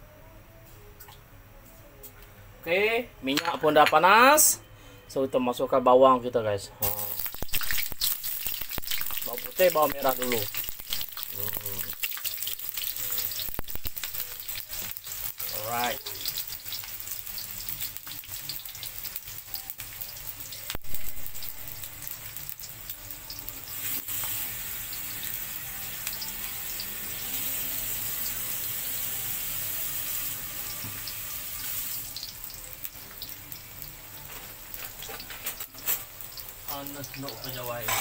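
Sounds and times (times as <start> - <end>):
garlic frying in oil: 6.8 - 38.0.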